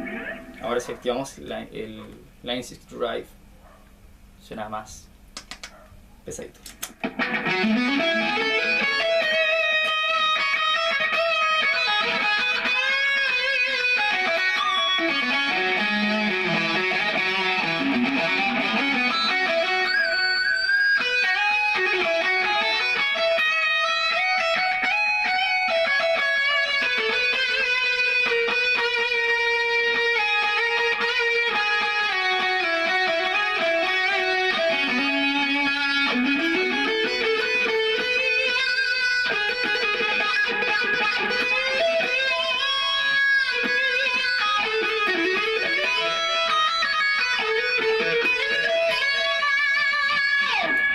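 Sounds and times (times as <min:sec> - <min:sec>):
overdriven electric guitar lead: 0:00.0 - 0:01.0, 0:06.6 - 0:50.9.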